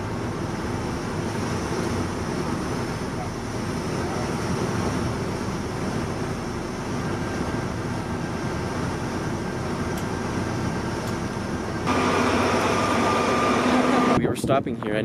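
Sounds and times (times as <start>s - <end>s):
idling bus rumble and hiss: 0.0s - 14.2s
faint steady whine: 0.0s - 15.0s.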